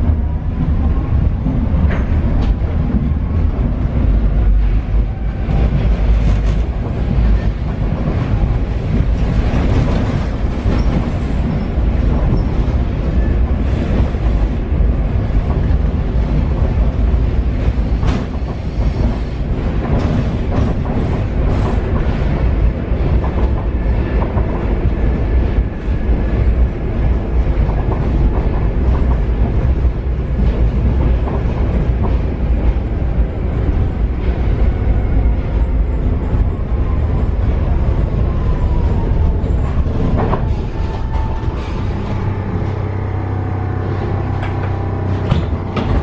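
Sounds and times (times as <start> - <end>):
train rumbling on track: 0.0 - 46.0.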